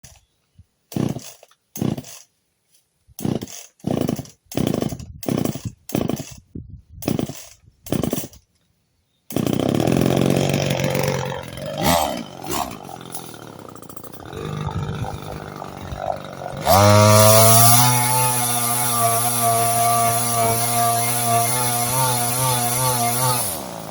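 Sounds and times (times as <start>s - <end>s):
chainsaw engine idling and revving: 0.9s - 2.3s, 3.2s - 6.4s, 7.0s - 8.4s, 9.3s - 23.9s
chainsaw starter cord pulls: 0.9s - 2.3s, 3.2s - 6.4s, 7.0s - 8.5s, 9.3s - 23.9s.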